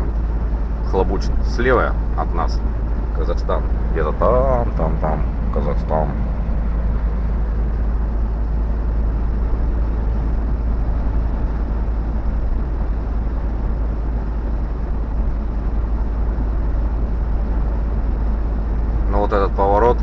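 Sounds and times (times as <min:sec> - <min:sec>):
diesel engine drone: 0:00.0 - 0:20.0.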